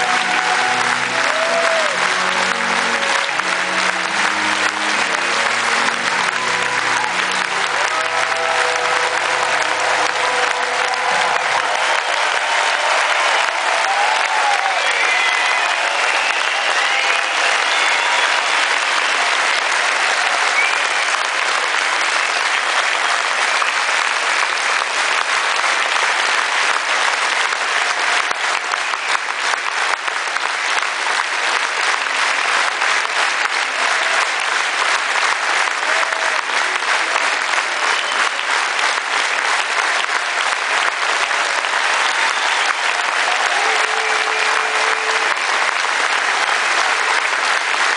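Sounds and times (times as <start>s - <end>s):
audience applauding: 0.0s - 47.9s.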